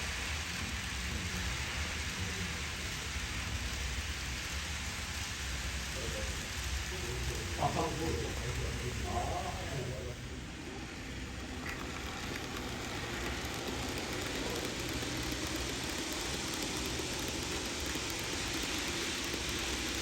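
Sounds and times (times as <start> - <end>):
model train wheels rolling: 0.0 - 20.0.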